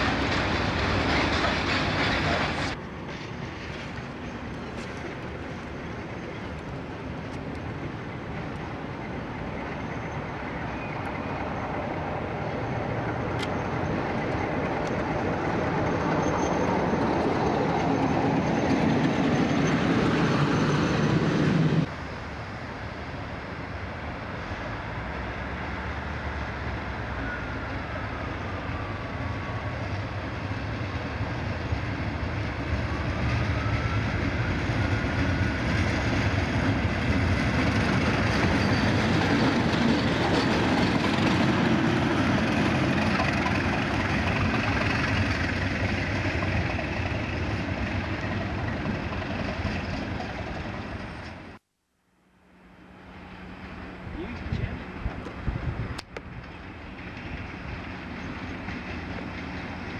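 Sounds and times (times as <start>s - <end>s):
diesel locomotive approaching: 0.0s - 51.6s, 52.4s - 59.9s
diesel locomotive passing: 0.0s - 51.6s, 52.5s - 59.9s.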